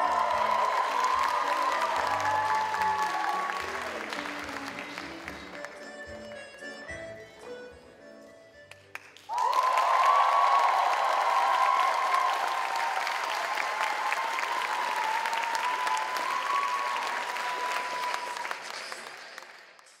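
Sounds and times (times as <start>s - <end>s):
audience applauding and cheering: 0.0s - 7.6s, 8.6s - 20.0s.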